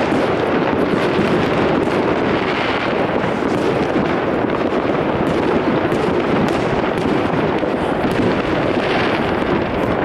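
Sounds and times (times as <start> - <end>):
fireworks bangs: 0.0 - 10.0
fireworks crackles: 0.0 - 10.0.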